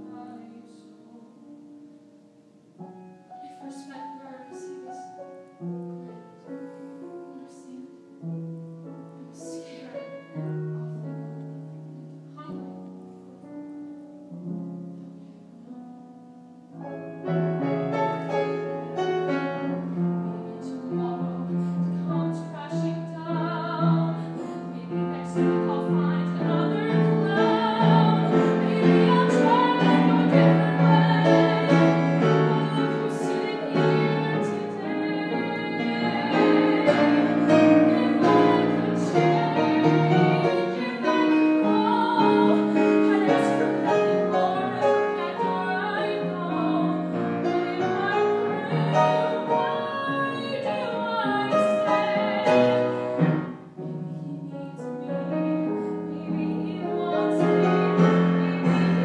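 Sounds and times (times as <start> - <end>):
woman singing classical: 0.0 - 15.8, 16.6 - 59.0
piano accompaniment: 0.0 - 59.0.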